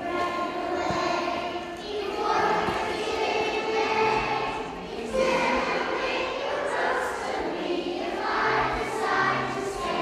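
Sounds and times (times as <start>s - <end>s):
children singing together: 0.0s - 10.0s.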